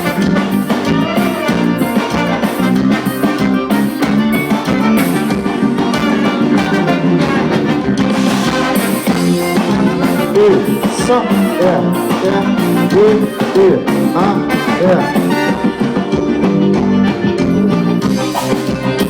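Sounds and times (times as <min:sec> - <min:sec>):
lead melody bending in pitch: 0:00.0 - 0:19.0
live band playing: 0:00.0 - 0:19.0.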